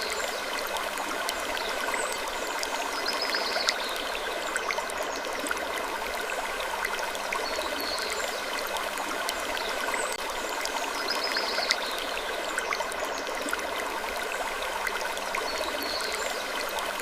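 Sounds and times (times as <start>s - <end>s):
trickling stream water: 0.0s - 17.0s.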